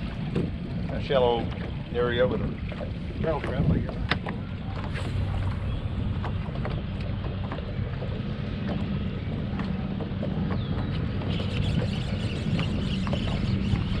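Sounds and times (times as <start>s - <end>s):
water lapping against hull: 0.0s - 14.0s
wind rumbling on microphone: 0.0s - 14.0s.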